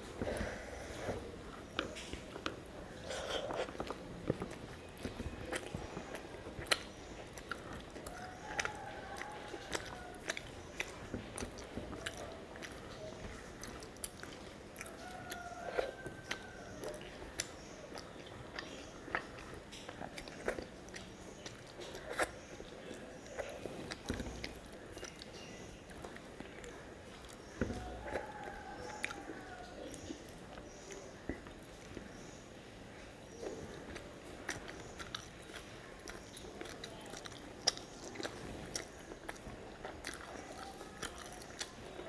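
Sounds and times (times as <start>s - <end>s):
person chewing with lip smacks: 0.0s - 32.4s, 33.2s - 42.0s.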